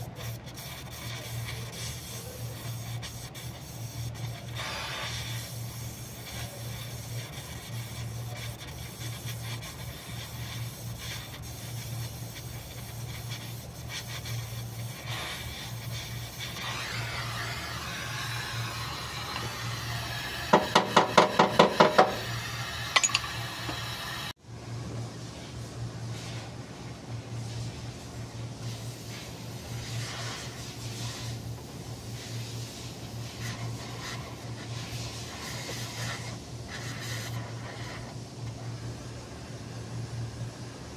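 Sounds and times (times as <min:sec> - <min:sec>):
welding torch flame hissing: 0:00.0 - 0:24.4, 0:28.6 - 0:40.9
steady low hum: 0:00.0 - 0:40.9.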